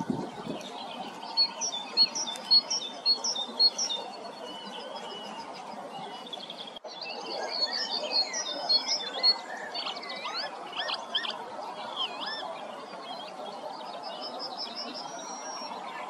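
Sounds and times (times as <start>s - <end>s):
songbirds singing and calling: 0.0s - 16.0s.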